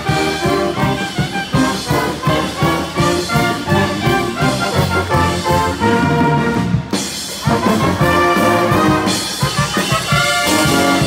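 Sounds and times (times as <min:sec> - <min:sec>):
brass band playing upbeat tune: 0:00.0 - 0:11.0
steady drum beat: 0:00.0 - 0:11.0.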